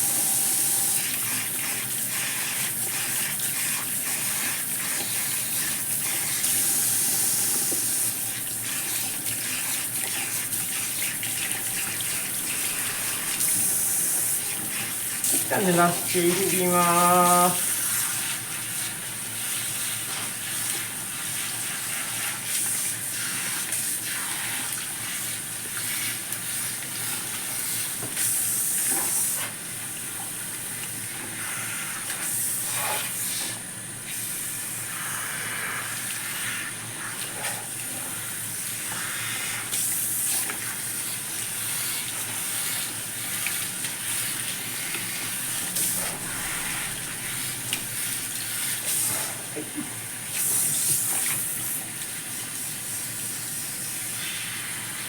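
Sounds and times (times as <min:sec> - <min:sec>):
shower head spraying water: 0:00.0 - 0:55.0.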